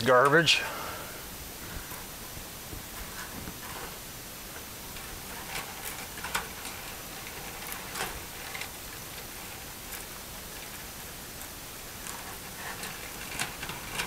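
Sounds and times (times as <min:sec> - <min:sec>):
steady hiss: 0:00.0 - 0:14.0
wires rustling: 0:00.0 - 0:14.0.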